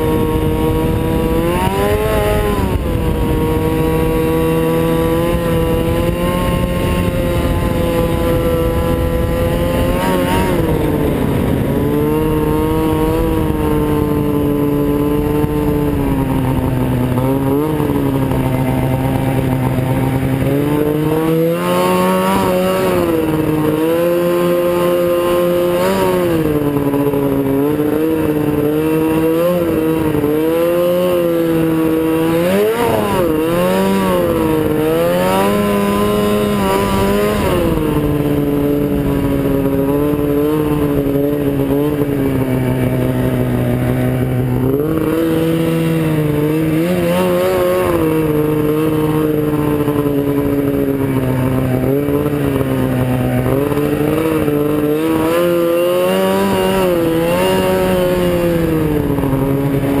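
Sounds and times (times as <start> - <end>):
snowmobile engine running: 0.0 - 60.0.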